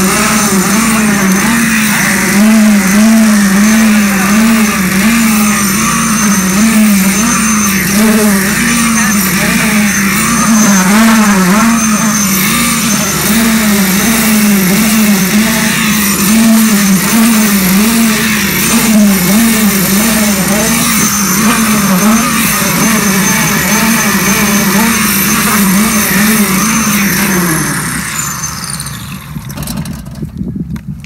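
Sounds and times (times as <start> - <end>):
concrete vibrator motor hum: 0.0 - 30.7.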